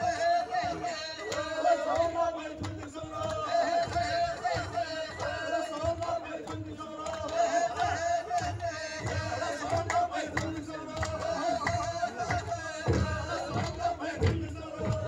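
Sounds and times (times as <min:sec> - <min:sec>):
low pulsing beat: 0:00.0 - 0:15.0
men chanting in unison: 0:00.0 - 0:15.0
rhythmic hand clapping: 0:00.0 - 0:15.0.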